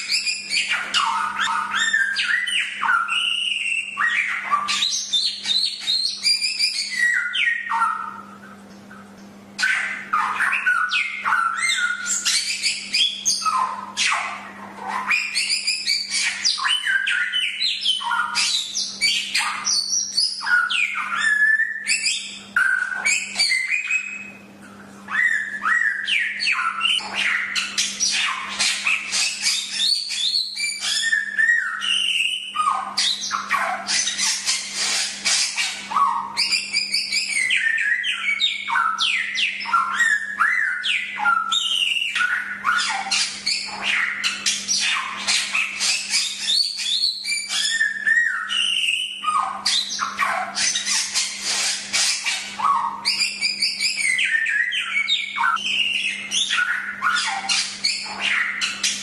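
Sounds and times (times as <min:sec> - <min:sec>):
bird chattering and whistling: 0:00.0 - 0:59.0.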